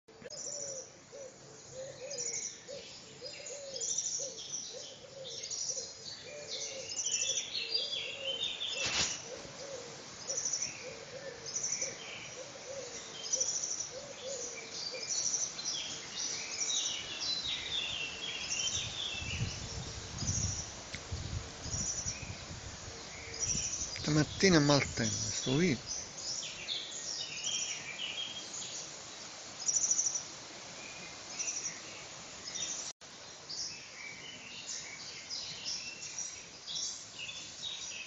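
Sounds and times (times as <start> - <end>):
birds chirping and trilling: 0.3 - 32.9.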